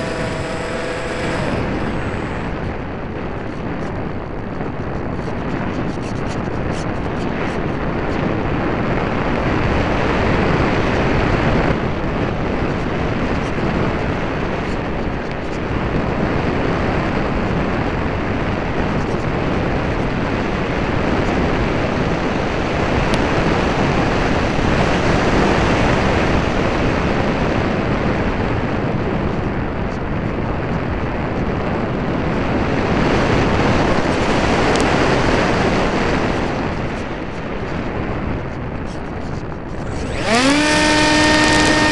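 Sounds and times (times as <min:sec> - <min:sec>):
rushing wind noise: 0:00.0 - 0:41.9.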